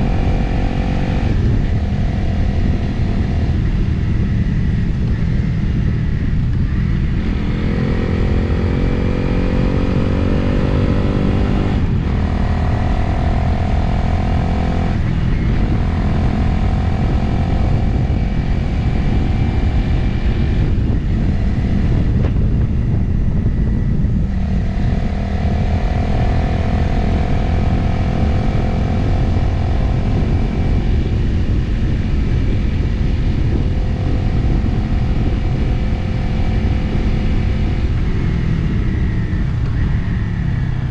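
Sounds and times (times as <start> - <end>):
motorcycle engine accelerating: 0.0 - 40.9
wind rumble on microphone: 0.0 - 40.9.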